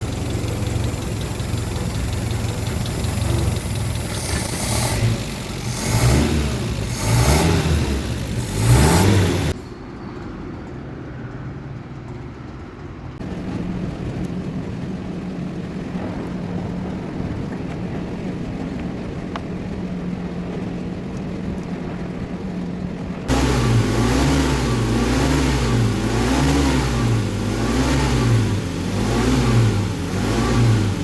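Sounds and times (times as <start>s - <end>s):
car engine revving: 0.0s - 9.6s, 13.2s - 31.0s.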